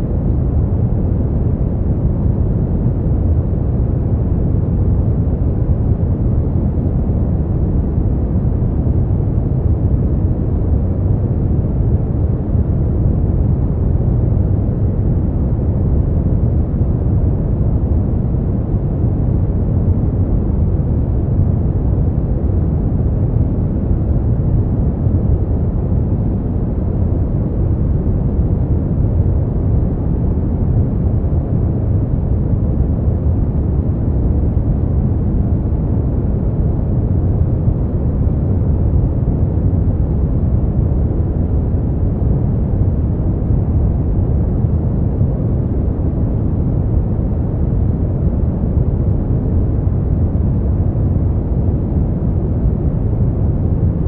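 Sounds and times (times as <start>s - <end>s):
deep brown noise rush: 0.0s - 54.0s.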